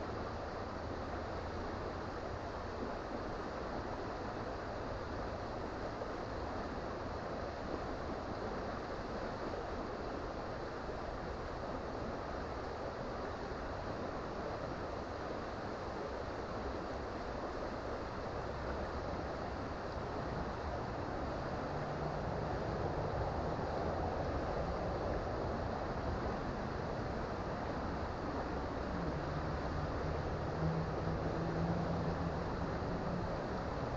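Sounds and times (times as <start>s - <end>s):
creek water flowing over rocks: 0.0s - 33.9s.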